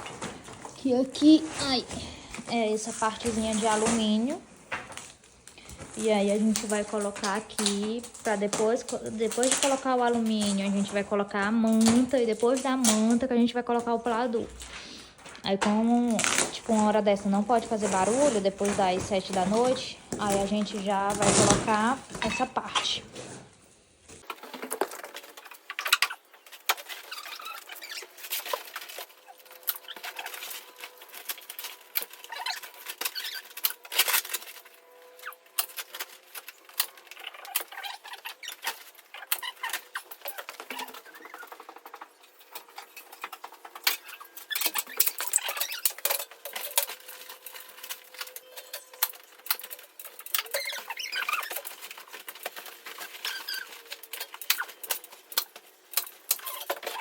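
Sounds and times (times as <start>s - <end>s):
foil crinkling and rustling: 0.0s - 57.0s.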